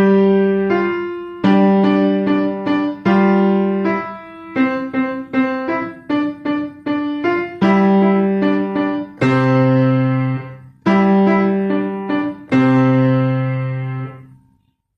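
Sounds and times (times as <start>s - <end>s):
piano playing: 0.0s - 14.6s.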